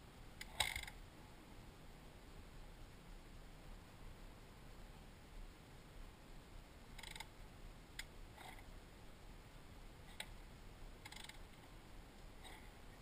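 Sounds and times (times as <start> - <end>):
faint rustles: 0.0 - 13.0.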